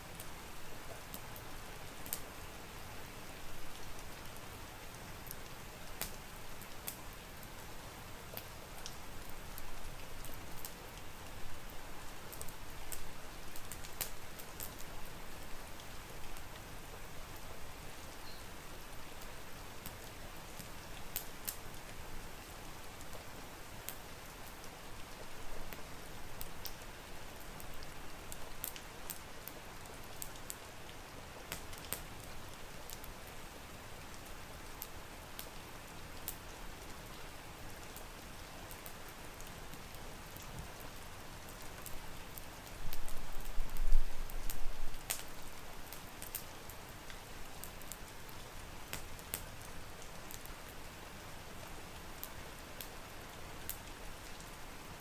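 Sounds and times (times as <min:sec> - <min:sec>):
steady rain hiss: 0:00.0 - 0:55.0
wood fire crackling: 0:00.1 - 0:55.0.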